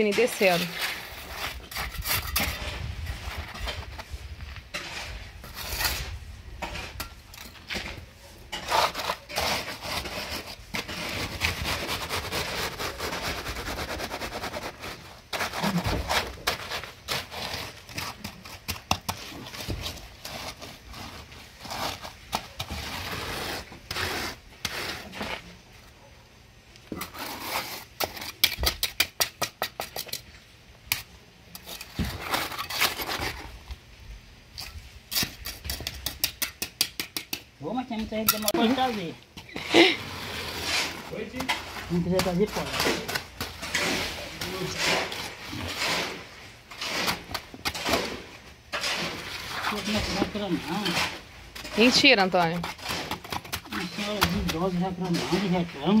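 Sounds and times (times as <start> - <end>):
float scraping wet concrete: 0.0 - 26.0, 26.8 - 33.8, 34.5 - 56.0.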